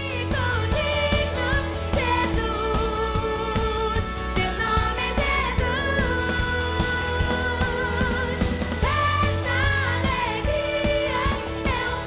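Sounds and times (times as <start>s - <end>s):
worship song with pop band: 0.0s - 12.0s.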